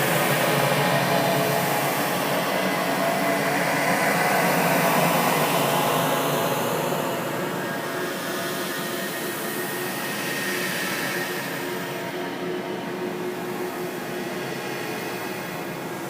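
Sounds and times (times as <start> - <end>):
steady rushing drone: 0.0 - 16.0.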